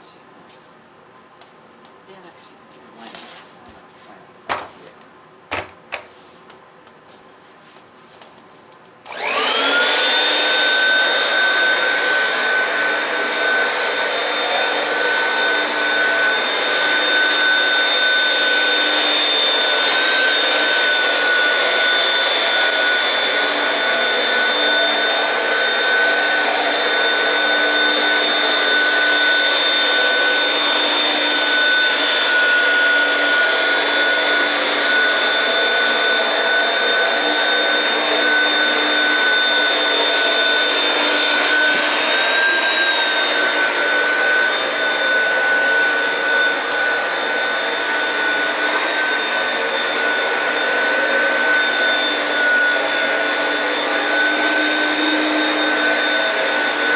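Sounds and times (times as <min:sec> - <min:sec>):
vacuum cleaner running: 0:09.0 - 0:56.9.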